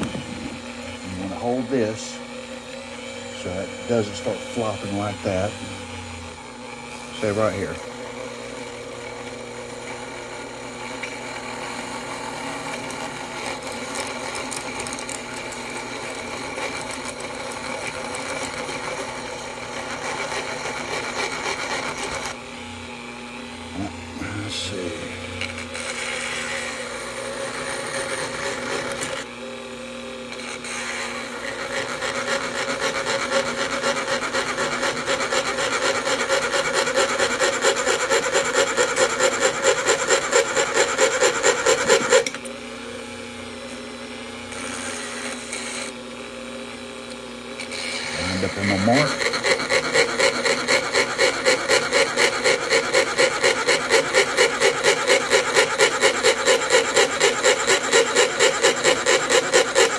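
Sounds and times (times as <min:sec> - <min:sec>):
rotary tool motor hum: 0:00.0 - 0:59.9.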